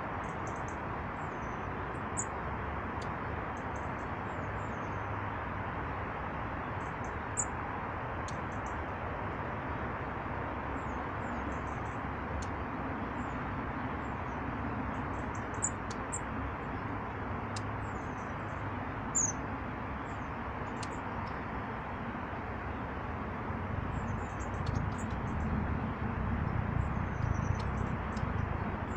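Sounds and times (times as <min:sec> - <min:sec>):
songbirds chirping: 0:00.0 - 0:28.9.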